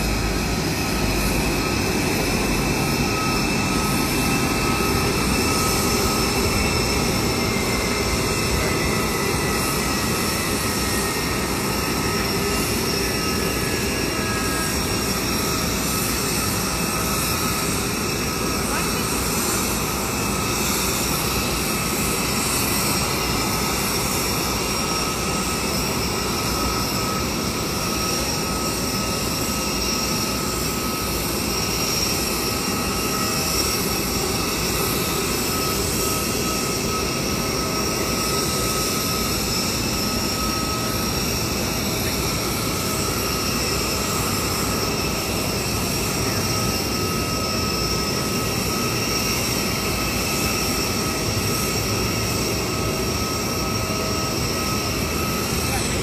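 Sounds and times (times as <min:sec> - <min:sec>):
jet turbine whine: 0:00.0 - 0:56.0.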